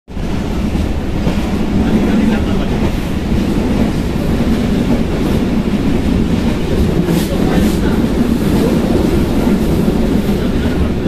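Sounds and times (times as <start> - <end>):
train wheels rumbling on rail: 0.1 - 11.0.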